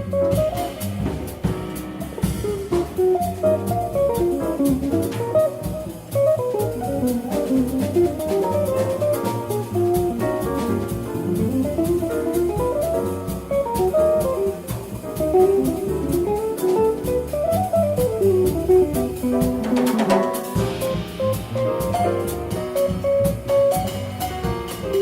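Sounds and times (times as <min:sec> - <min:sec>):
bass: 0:00.0 - 0:25.0
drum kit and cymbals: 0:00.0 - 0:25.0
live jazz band playing: 0:00.0 - 0:25.0.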